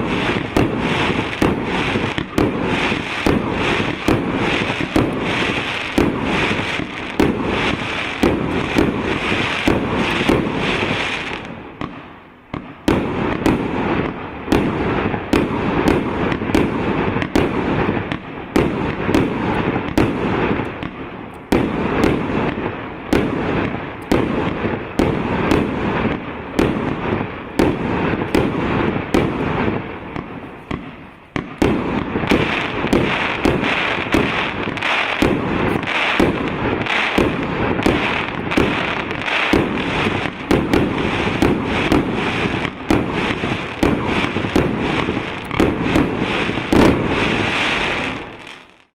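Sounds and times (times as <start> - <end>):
fireworks barrage shots: 0.0 - 48.9
fireworks crackling: 0.0 - 48.9.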